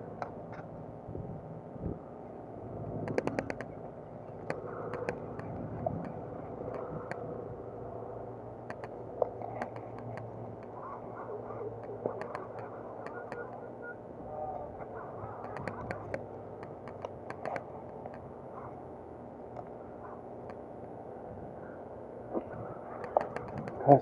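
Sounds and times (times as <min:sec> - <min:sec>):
low steady background: 0:00.0 - 0:24.0.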